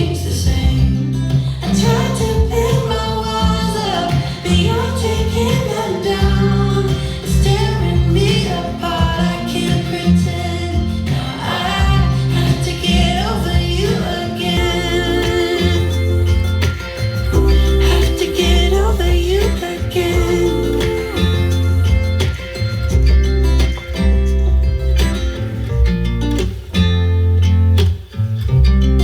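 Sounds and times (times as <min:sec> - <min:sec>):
pop song with female vocal: 0:00.0 - 0:23.7
bass: 0:00.0 - 0:29.0.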